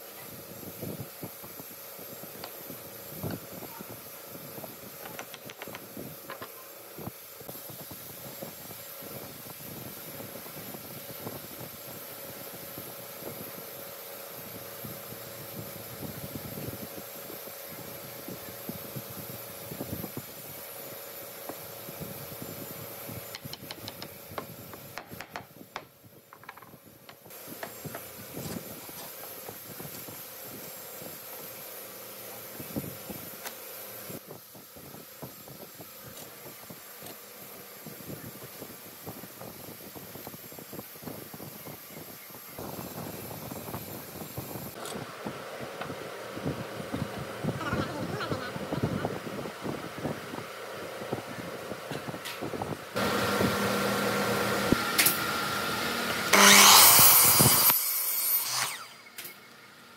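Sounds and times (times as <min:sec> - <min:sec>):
electric fan humming: 0:00.0 - 0:59.9.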